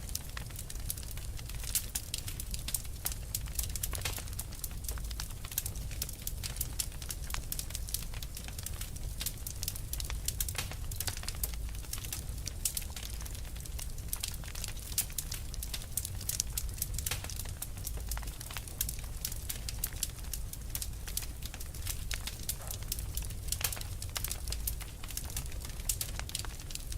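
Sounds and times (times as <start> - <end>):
low rumble of flames: 0.0 - 26.9
wood fire crackling: 0.0 - 26.9.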